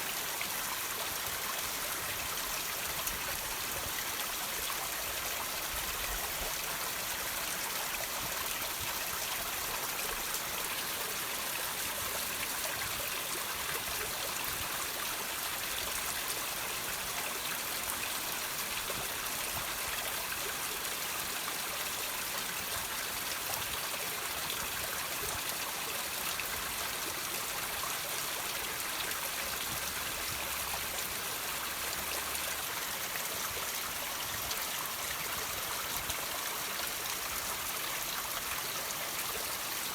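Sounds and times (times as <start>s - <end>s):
water trickling into a stream: 0.0s - 39.9s.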